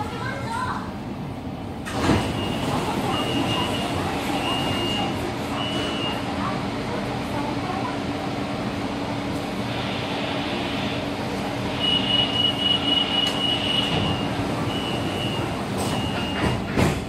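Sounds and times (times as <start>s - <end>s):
train hum and rumble: 0.0s - 17.0s.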